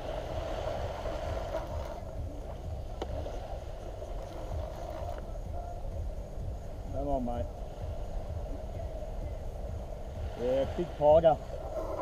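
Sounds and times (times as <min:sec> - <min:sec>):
waves washing on beach: 0:00.0 - 0:12.0
wind rumbling on microphone: 0:00.0 - 0:12.0.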